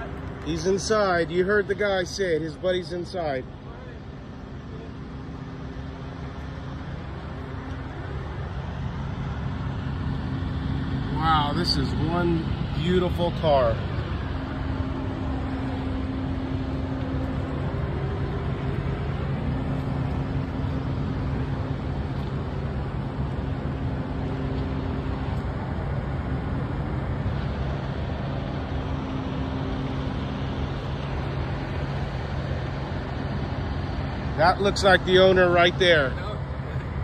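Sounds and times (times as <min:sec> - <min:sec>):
engine running: 0:00.0 - 0:37.0
traffic noise: 0:00.0 - 0:37.0.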